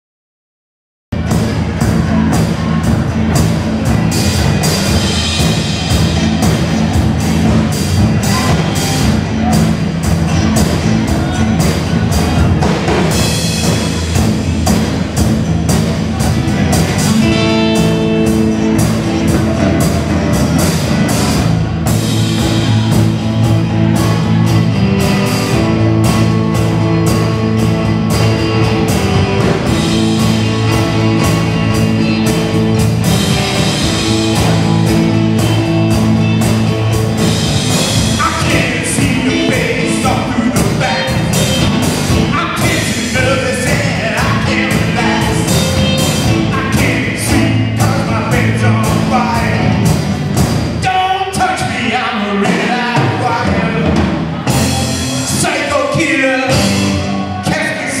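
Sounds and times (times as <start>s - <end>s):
drum kit beat: 1.1s - 58.0s
electric bass: 1.1s - 58.0s
electric guitars: 1.2s - 58.0s.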